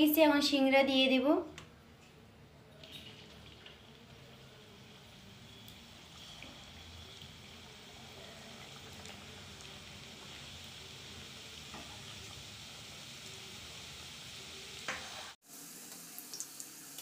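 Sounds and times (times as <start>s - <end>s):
food deep-frying in oil: 2.8s - 17.0s.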